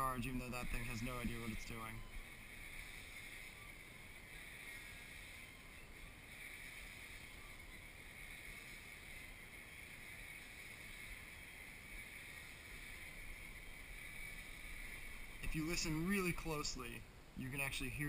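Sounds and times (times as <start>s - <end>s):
capacitor charger whine: 0.0s - 18.0s
light hiss: 0.0s - 18.0s.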